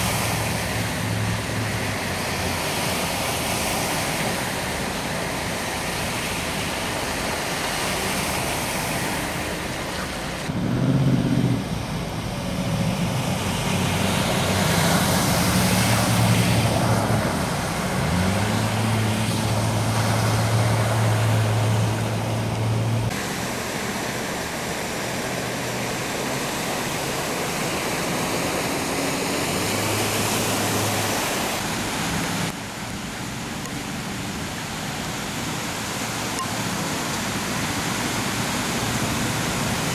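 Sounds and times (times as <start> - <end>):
tyres spraying floodwater: 0.0 - 39.9
vehicle engine hum: 0.0 - 39.9
water rushing: 0.0 - 39.9.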